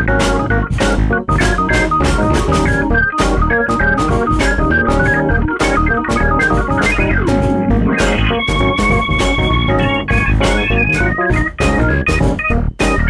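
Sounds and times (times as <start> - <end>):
bass line: 0.0 - 13.0
drum beat: 0.0 - 13.0
organ-toned keyboard melody: 0.0 - 13.0.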